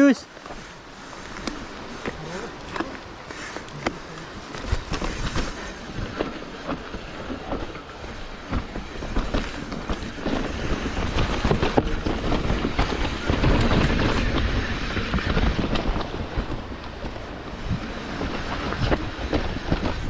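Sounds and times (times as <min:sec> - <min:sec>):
bike tyres rumbling on dirt: 0:00.3 - 0:20.0.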